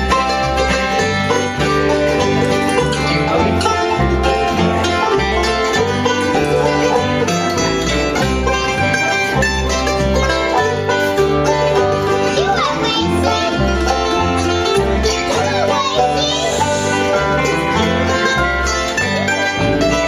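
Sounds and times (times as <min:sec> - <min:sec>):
banjo picking: 0:00.0 - 0:20.0
bass line: 0:00.0 - 0:20.0
guitar picking: 0:00.0 - 0:20.0.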